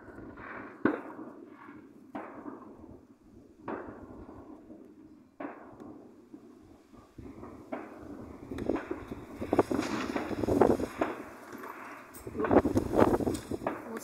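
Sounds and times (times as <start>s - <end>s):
distant fireworks bangs: 0.0s - 14.0s.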